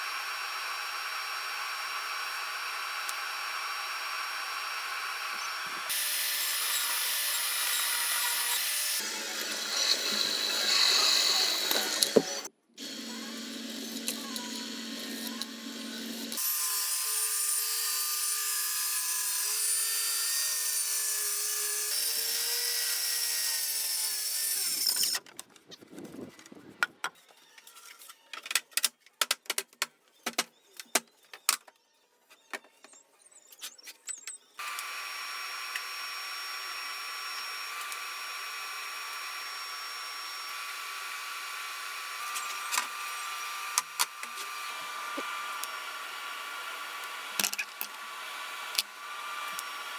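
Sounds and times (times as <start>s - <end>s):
power tool running: 0.0s - 25.2s, 34.6s - 49.9s.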